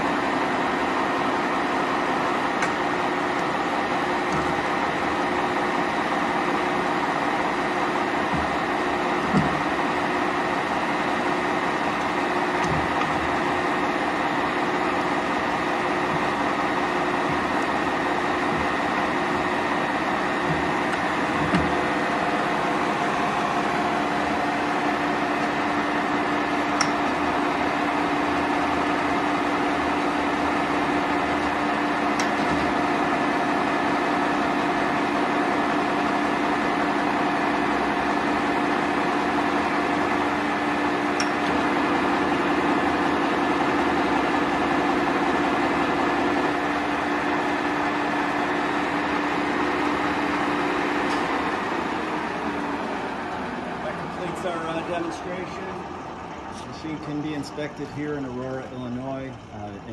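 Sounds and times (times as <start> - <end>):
lathe hum and gear whine: 0.0 - 59.9.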